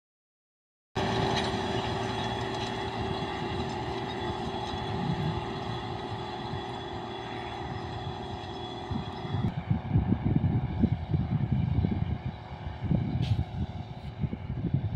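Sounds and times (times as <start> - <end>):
tractor diesel engine running: 1.0 - 14.9.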